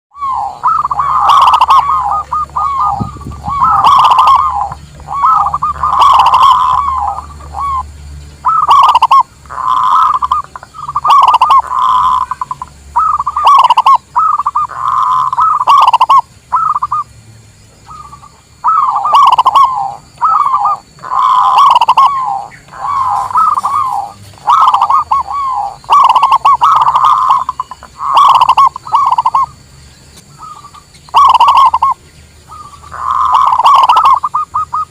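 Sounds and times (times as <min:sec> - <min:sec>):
dove cooing: 0:00.1 - 0:17.0, 0:17.9 - 0:29.6, 0:30.2 - 0:34.9.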